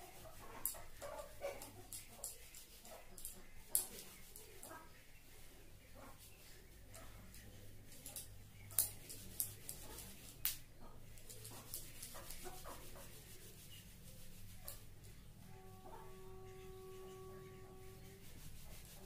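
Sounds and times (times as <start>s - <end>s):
towel rubbing wet hair: 0.0s - 10.6s, 11.2s - 15.5s, 16.1s - 19.0s
low steady hum: 0.0s - 19.0s.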